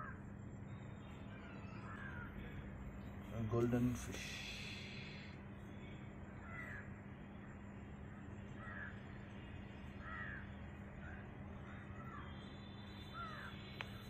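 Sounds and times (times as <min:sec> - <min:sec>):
bird calling faintly: 0:00.0 - 0:14.0
steady low hum: 0:00.0 - 0:14.0.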